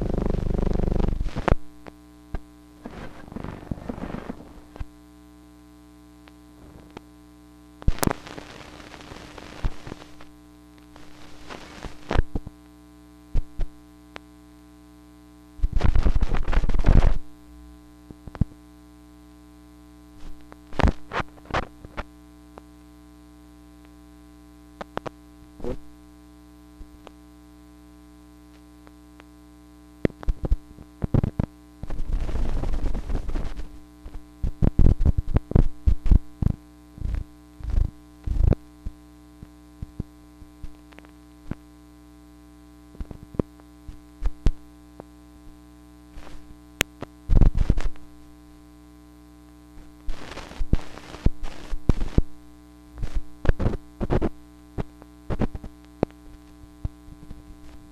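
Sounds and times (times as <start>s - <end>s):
crackling noise bursts: 0.0s - 57.9s
electrical hum: 0.0s - 57.9s.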